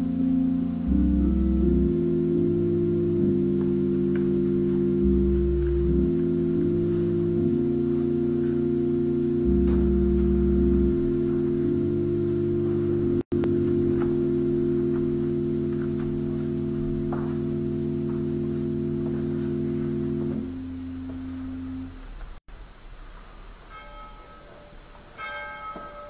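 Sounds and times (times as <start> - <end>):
church organ chords: 0.0 - 22.4
deep organ pedal bass notes: 0.0 - 22.4.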